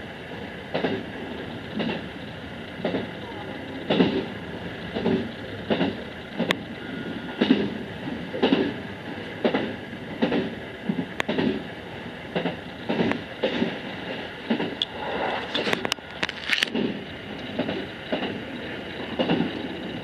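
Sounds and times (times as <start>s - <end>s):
train rolling noise: 0.0s - 20.0s.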